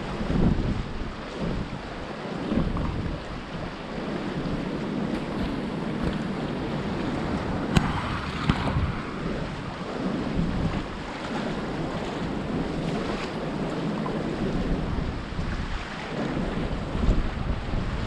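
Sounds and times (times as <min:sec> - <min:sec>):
sea waves washing against concrete: 0:00.0 - 0:18.0
wind buffeting microphone: 0:00.0 - 0:18.0.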